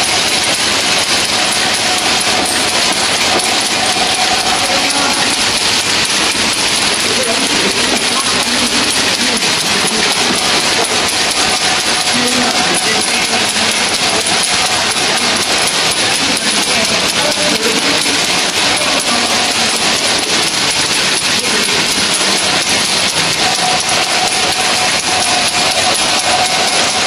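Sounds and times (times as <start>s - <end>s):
machine motor whirring: 0.0s - 27.0s.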